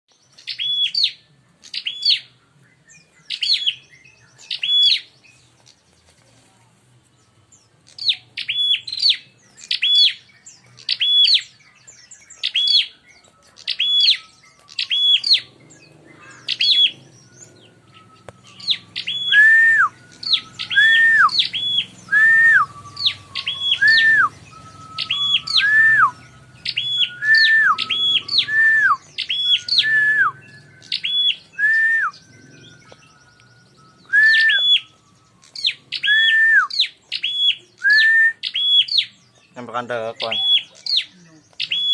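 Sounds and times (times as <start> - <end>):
bird sharp high chirps: 0.1 - 6.4, 7.2 - 41.9
lower falling bird call: 7.9 - 41.9.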